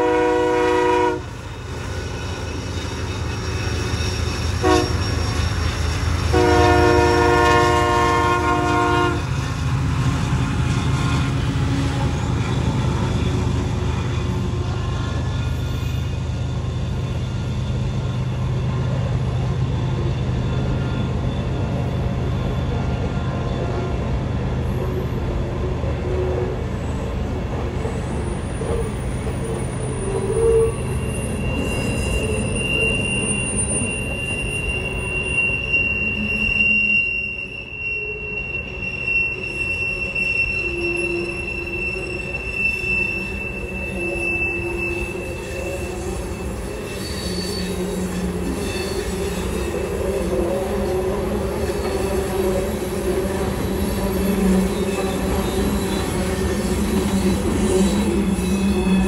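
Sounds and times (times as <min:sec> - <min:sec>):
train wheels rumbling on rail: 0:00.0 - 0:59.0
train wheels squealing: 0:00.0 - 0:59.0.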